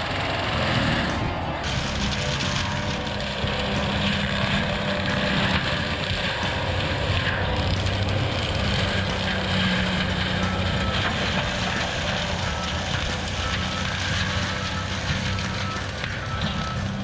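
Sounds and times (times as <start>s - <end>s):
diesel engine running: 0.0s - 17.0s
mulcher rushing noise: 0.0s - 17.0s.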